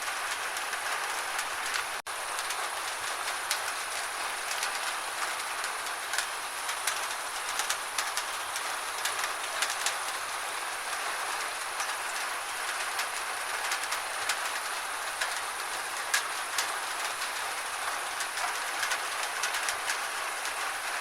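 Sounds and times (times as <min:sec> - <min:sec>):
rain hissing: 0:00.0 - 0:21.0
raindrops ticking: 0:00.1 - 0:20.9.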